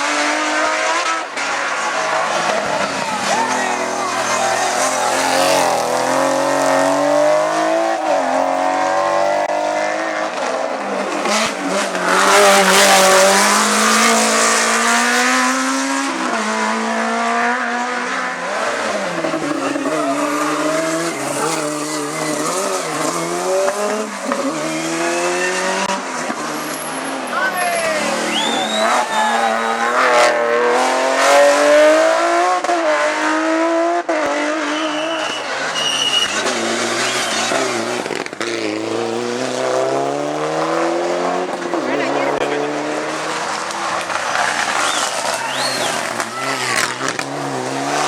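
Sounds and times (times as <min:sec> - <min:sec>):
race car engine revving past: 0:00.0 - 0:48.0.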